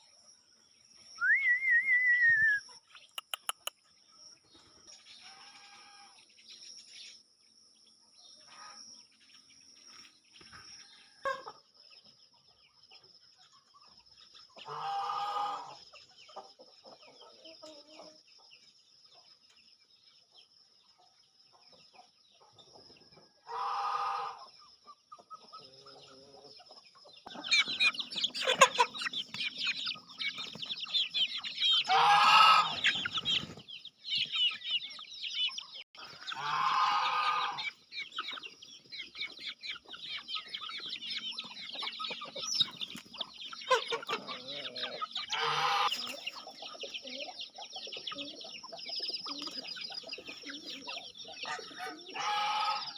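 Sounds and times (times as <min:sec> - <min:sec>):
birds chirping: 0:00.0 - 0:52.9
chickens clucking: 0:01.2 - 0:06.2, 0:09.9 - 0:52.9.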